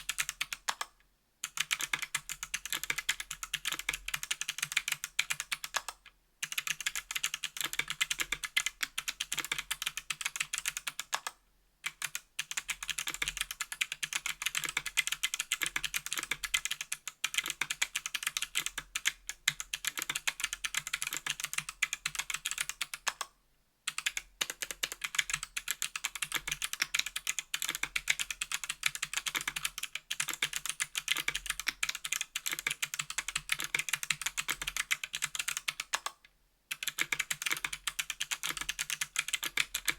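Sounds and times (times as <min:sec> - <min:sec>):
fast typing on clicky keyboard: 0:00.0 - 0:23.3, 0:23.9 - 0:39.9.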